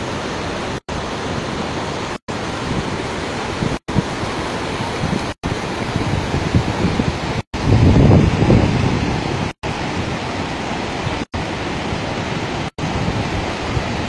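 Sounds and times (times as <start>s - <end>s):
stream rushing over boulders: 0.0s - 14.0s.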